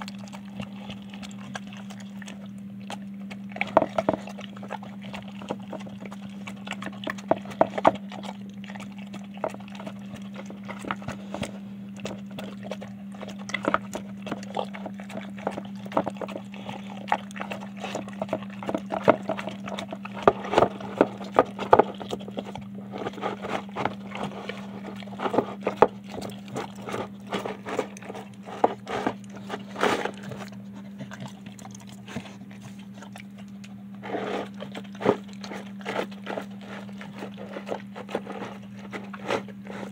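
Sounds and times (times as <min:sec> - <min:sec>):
dog eating from plastic bowl: 0:00.0 - 0:39.9.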